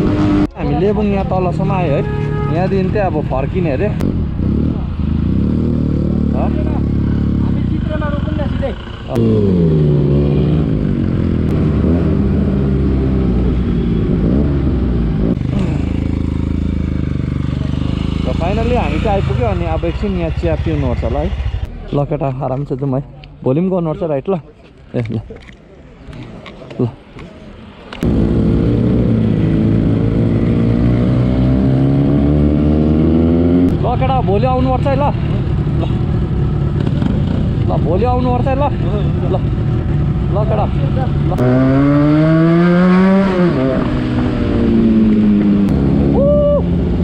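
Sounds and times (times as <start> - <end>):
motorcycle engine revving: 0.0 - 0.6, 1.8 - 21.7, 28.0 - 47.0.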